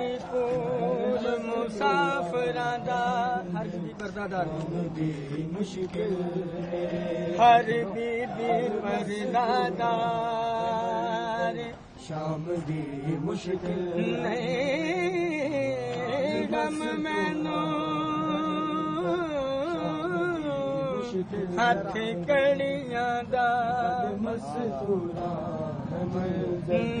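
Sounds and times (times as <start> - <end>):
person chanting a lament: 0.0 - 27.0.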